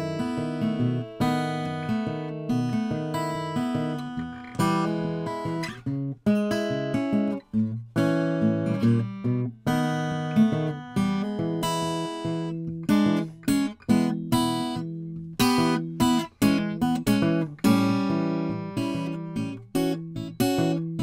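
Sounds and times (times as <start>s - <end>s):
acoustic guitar fingerpicked: 0.0s - 21.0s.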